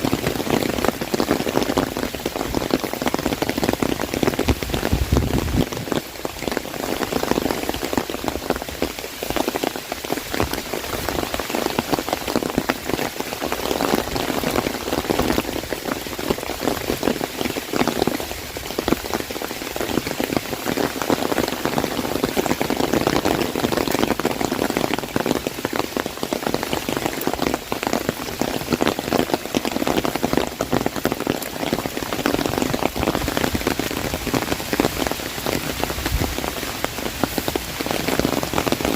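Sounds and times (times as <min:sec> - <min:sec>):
heavy rain on an umbrella: 0:00.0 - 0:38.9.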